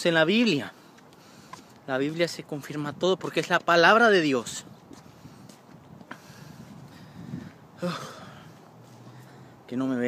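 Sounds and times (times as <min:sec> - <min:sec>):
outdoor background noise: 0:00.0 - 0:10.0
footsteps on pavement: 0:00.1 - 0:09.8.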